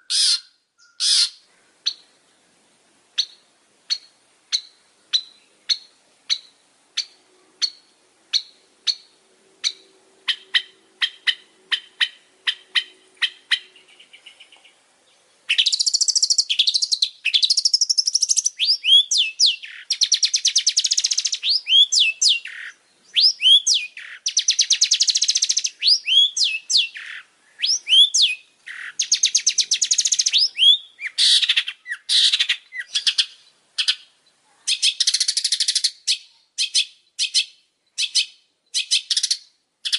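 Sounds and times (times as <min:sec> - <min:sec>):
rapid chattering birdsong: 0:03.2 - 0:39.9.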